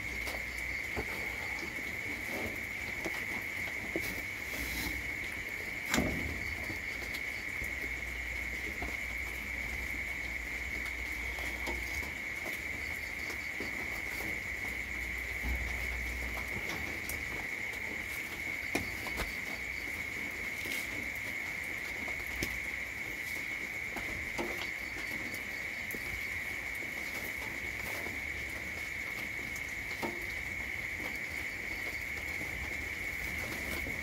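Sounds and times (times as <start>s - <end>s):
crickets trilling: 0.0s - 34.0s
rain drips and ticks: 0.0s - 34.0s.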